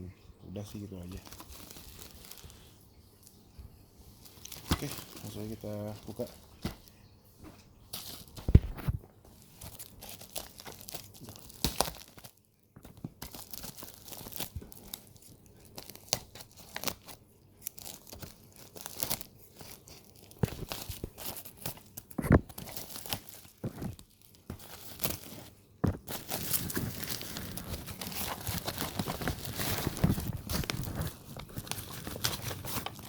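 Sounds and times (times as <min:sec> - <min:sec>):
wrapping tearing and crinkling: 0:01.0 - 0:03.4, 0:04.1 - 0:07.0, 0:07.9 - 0:33.0.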